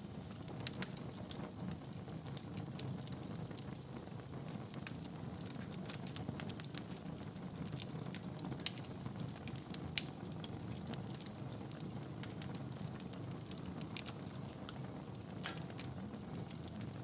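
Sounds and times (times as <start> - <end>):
wood fire crackling: 0.0 - 17.0
loud fire pops: 0.2 - 17.0.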